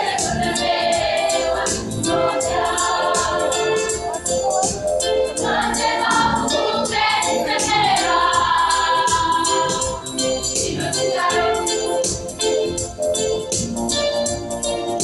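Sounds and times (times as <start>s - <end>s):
choir singing gospel song: 0.0s - 12.1s.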